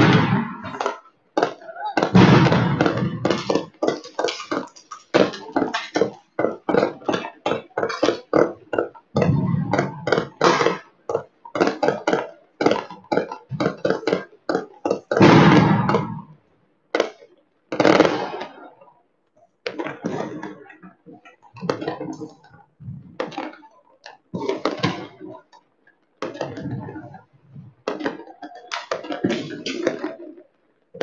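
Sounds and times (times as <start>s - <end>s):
fireworks and firecrackers banging: 0.0s - 18.8s, 19.6s - 25.6s, 26.2s - 31.0s.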